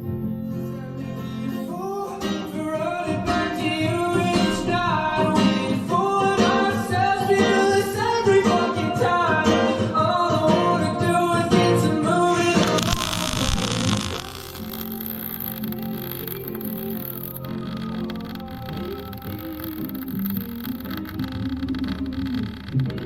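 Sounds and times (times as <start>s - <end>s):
acoustic guitar: 0.0s - 23.0s
man singing: 0.5s - 19.7s.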